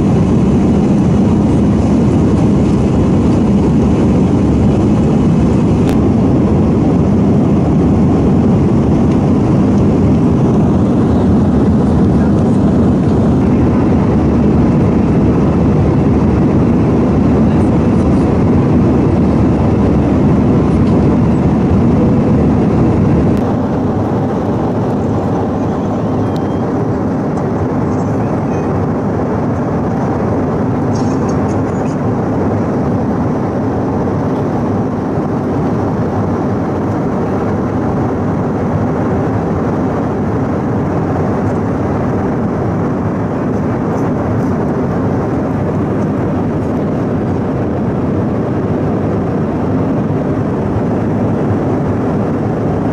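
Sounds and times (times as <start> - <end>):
jet engine cabin rumble: 0.0 - 52.9.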